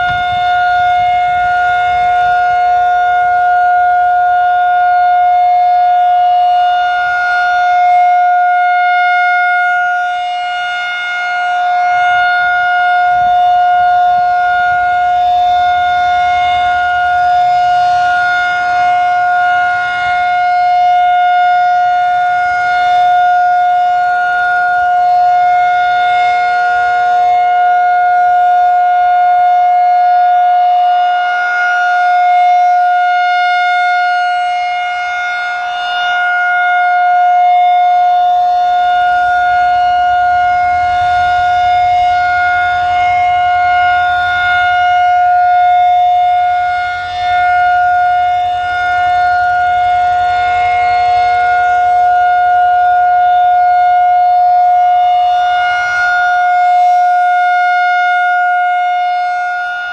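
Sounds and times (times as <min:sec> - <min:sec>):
rotating siren steady tone: 0:00.0 - 0:59.9.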